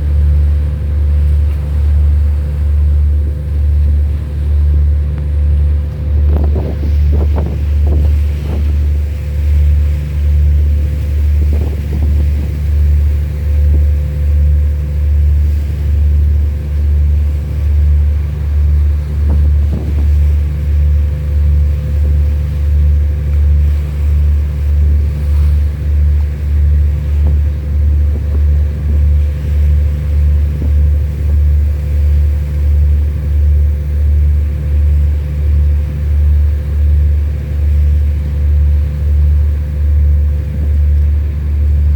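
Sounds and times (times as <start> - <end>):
diesel engine throbbing: 0.0 - 41.9
steady hum: 0.0 - 41.9.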